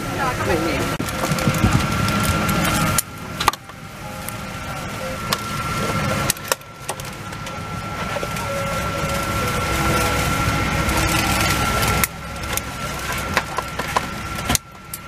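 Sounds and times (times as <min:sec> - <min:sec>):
airliner cabin hum: 0:00.0 - 0:15.0
thin whine: 0:00.0 - 0:15.0.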